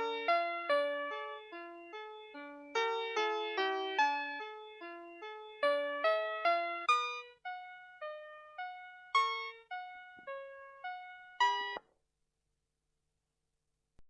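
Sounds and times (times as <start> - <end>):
toy playing electronic melody: 0.0 - 11.8.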